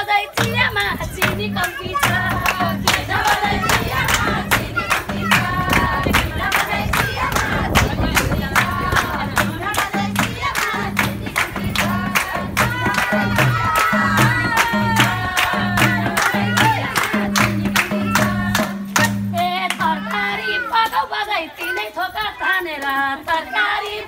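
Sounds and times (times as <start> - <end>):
women singing folk song: 0.0 - 24.0
hand clapping: 0.4 - 20.2.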